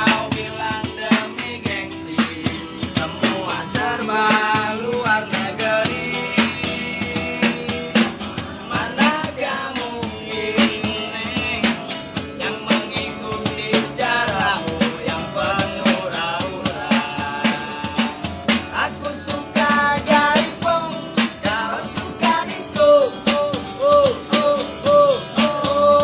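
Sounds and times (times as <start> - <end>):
person singing: 0.0 - 26.0
steady drum beat: 0.0 - 26.0.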